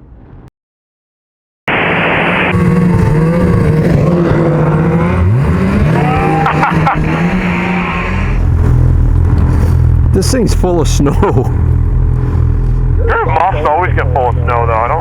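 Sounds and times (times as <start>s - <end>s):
snowmobile engine running: 2.4s - 15.0s.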